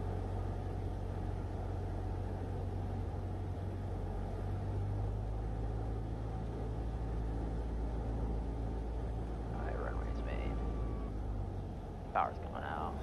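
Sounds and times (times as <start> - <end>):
plane engine and propeller droning: 0.0 - 13.0.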